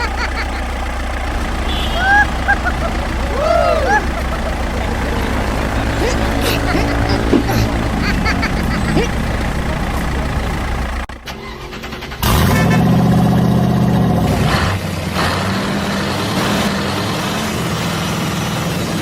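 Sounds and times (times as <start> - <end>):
vehicle engine starting: 0.0 - 19.0.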